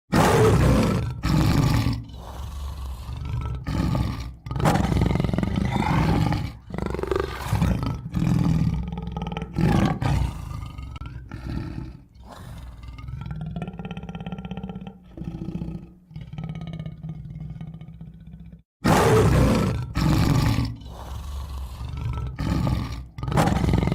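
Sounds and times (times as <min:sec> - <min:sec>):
tiger roaring and growling: 0:00.1 - 0:23.9.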